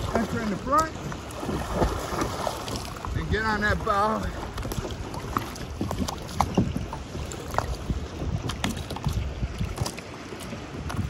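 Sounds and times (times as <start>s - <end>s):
waves lapping against kayak: 0.0s - 11.0s
wind buffeting microphone: 0.0s - 11.0s.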